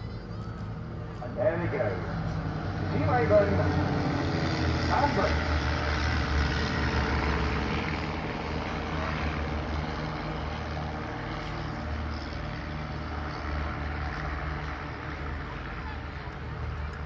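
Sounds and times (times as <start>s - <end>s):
propeller aircraft droning: 0.0s - 17.0s.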